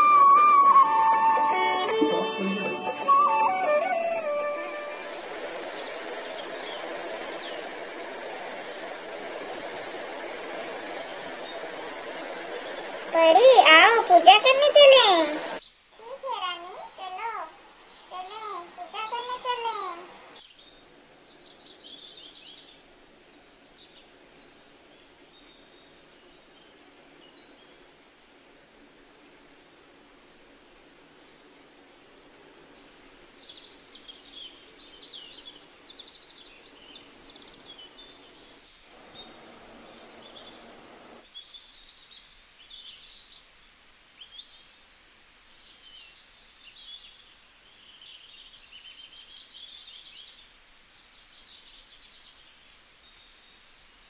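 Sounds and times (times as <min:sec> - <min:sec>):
small birds chirping: 0:00.0 - 0:28.2, 0:29.0 - 0:44.6
faint steady hiss: 0:00.0 - 0:54.0.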